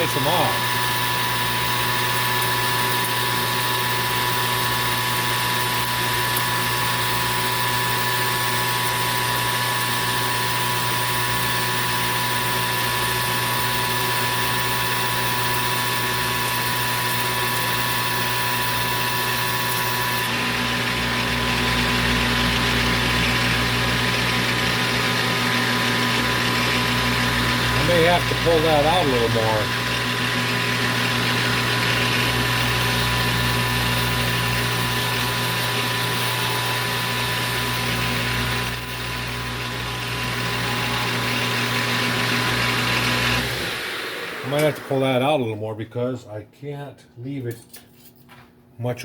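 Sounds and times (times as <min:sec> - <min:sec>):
metal lathe running: 0:00.0 - 0:45.2.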